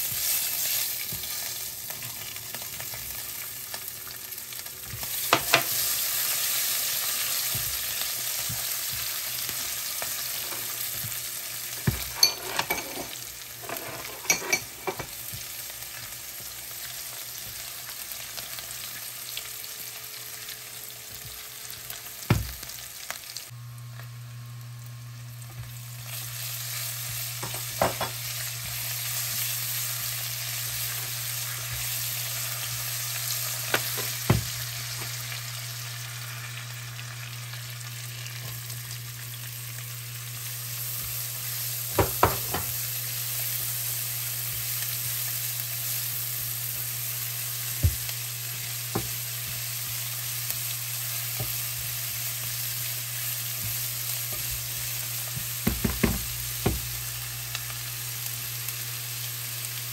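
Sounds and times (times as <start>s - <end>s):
spices sizzling in hot oil: 0.0s - 59.9s.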